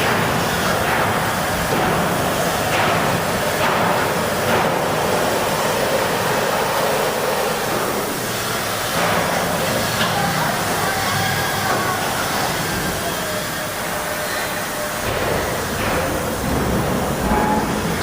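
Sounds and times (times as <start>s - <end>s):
industrial workshop din: 0.0s - 18.0s.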